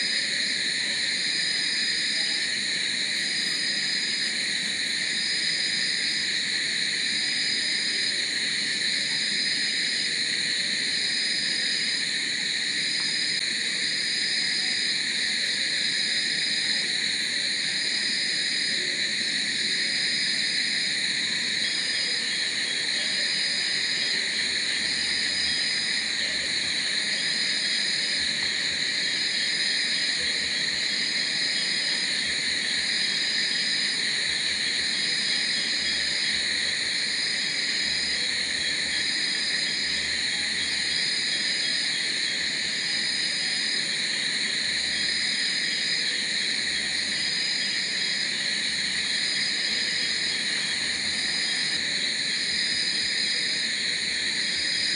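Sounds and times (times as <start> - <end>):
crickets and insects calling: 0.0 - 54.9
high insect trill: 0.0 - 54.9.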